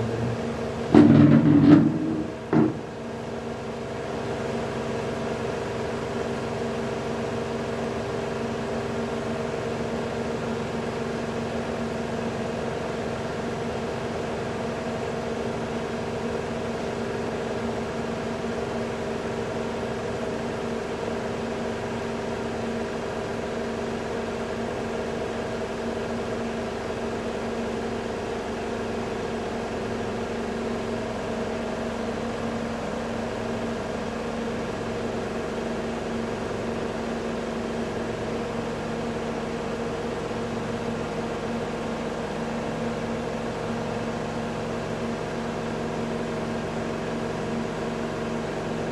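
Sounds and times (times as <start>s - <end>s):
autoclave mechanical hum: 0.0s - 48.9s.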